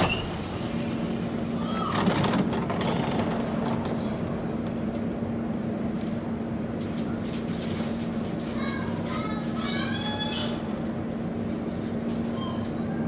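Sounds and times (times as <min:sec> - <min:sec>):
tram car hum and rumble: 0:00.0 - 0:13.0.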